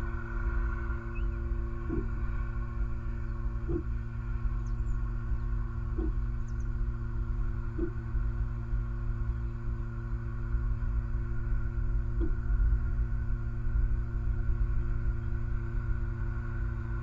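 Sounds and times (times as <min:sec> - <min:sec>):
electrical hum: 0:00.0 - 0:17.0
low rumble: 0:00.0 - 0:17.0.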